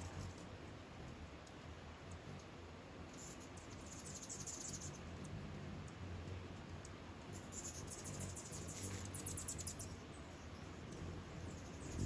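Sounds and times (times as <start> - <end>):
hummingbirds chipping and twittering: 0.0 - 12.0
low steady hum: 0.0 - 12.0.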